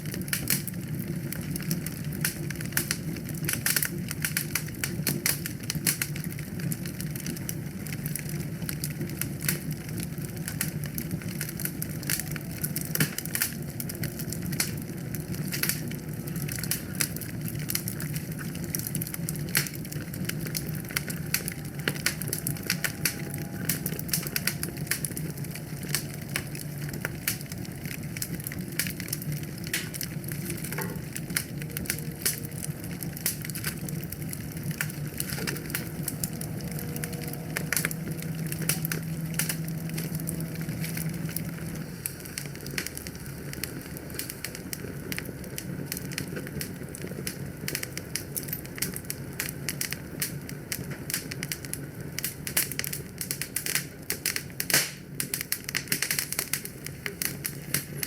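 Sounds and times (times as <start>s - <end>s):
low rush of flame: 0.0s - 58.0s
wood fire crackling and popping: 0.0s - 58.0s.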